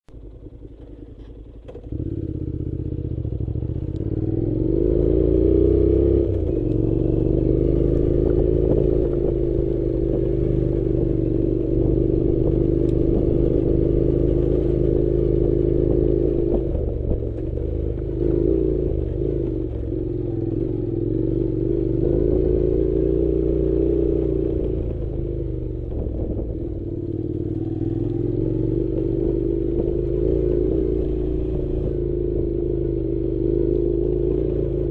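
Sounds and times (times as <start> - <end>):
engine running: 0.1 - 34.9.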